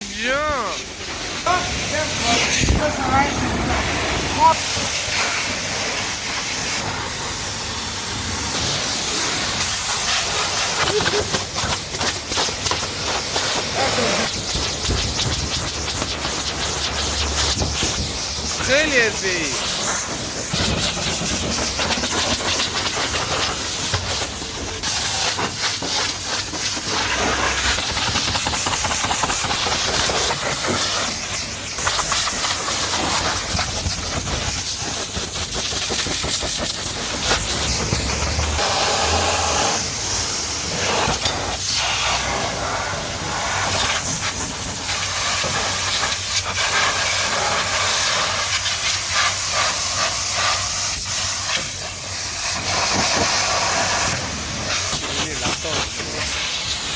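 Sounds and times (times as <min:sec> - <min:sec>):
pressure washer spraying water: 0:00.0 - 0:56.9.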